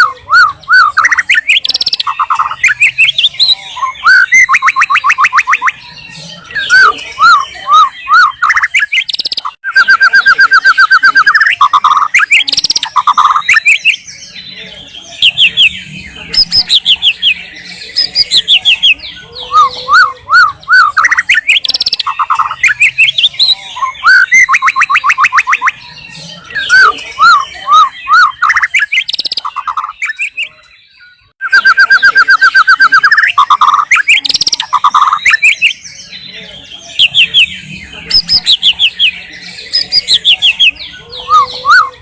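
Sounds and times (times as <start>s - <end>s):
bird singing whistled song: 0.0s - 42.0s.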